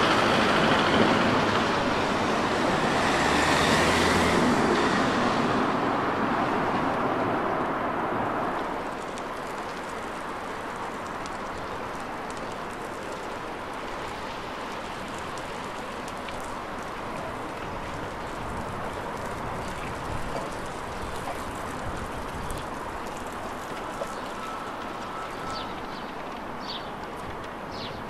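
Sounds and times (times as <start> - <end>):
outdoor background rush: 0.0 - 28.0.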